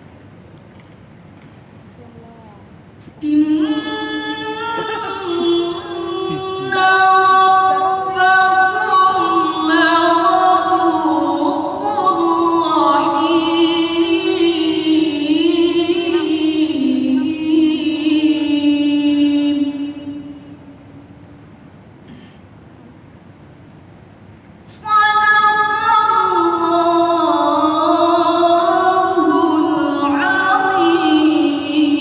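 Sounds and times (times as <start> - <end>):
woman reciting melodically: 1.9 - 20.8, 24.7 - 32.0.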